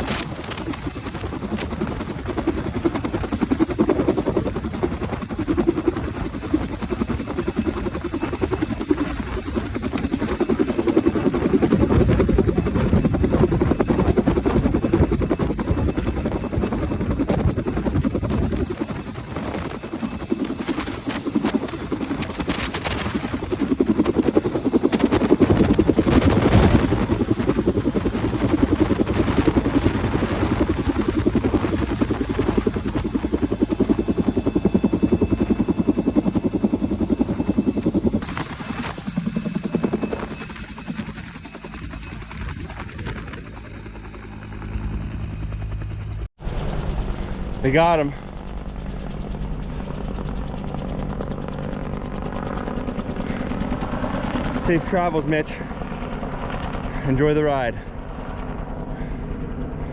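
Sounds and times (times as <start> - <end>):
helicopter rotor chopping: 0.0 - 59.9.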